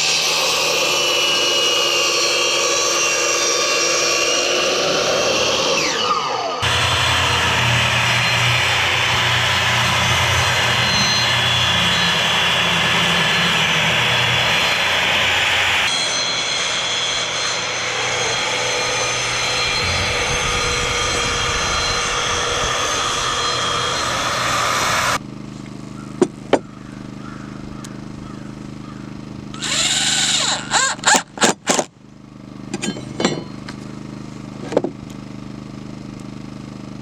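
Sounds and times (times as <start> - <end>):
power saw cutting lumber: 0.0 - 26.6, 28.1 - 31.9.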